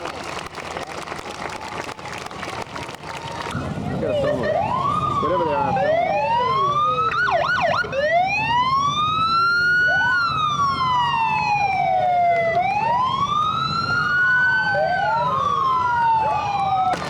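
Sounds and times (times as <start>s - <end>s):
emergency vehicle sirens wailing: 0.0s - 17.0s
low engine rumble: 0.0s - 17.0s.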